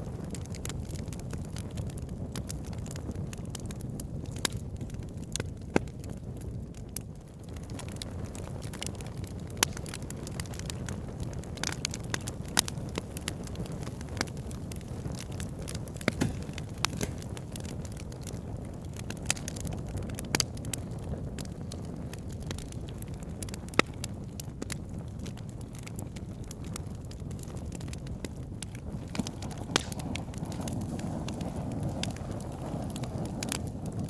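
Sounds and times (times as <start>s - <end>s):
fire crackling and popping: 0.0s - 34.0s
wood fire rumbling: 0.0s - 34.0s.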